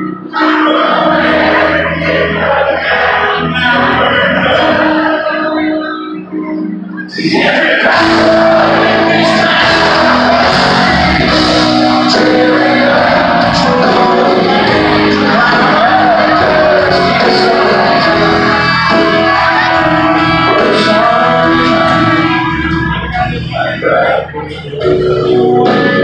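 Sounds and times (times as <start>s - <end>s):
crowd shouting: 0.0s - 26.0s
live country band: 0.0s - 26.0s
person singing: 0.0s - 26.0s.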